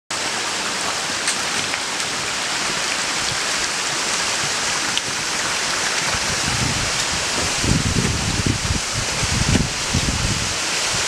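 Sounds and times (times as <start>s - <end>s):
water rushing over rocks: 0.1s - 11.0s.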